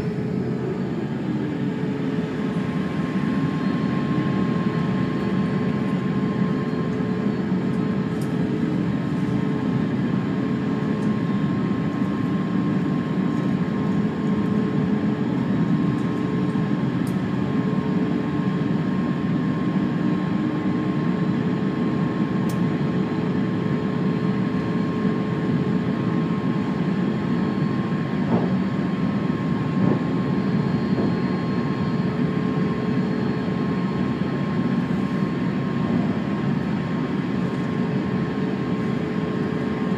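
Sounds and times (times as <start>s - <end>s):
aircraft cabin drone: 0.0s - 39.9s
thin steady whine: 0.0s - 39.9s.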